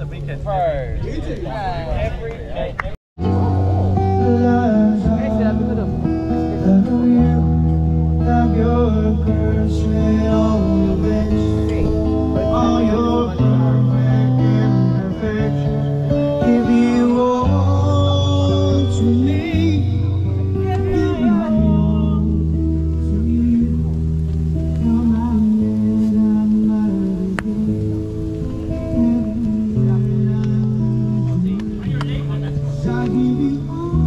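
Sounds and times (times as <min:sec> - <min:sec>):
held bass notes: 0:00.0 - 0:34.0
man singing: 0:03.2 - 0:27.9, 0:28.7 - 0:31.6, 0:32.3 - 0:34.0
strummed acoustic guitar: 0:03.2 - 0:34.0.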